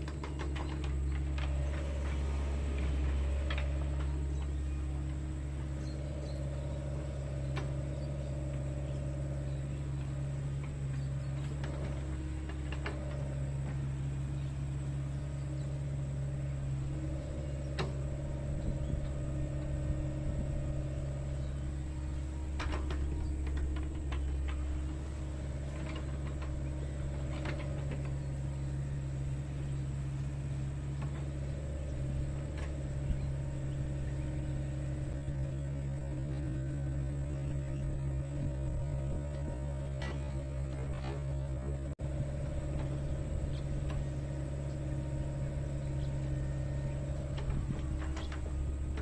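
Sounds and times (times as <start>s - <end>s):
excavator engine running: 0.0s - 49.0s.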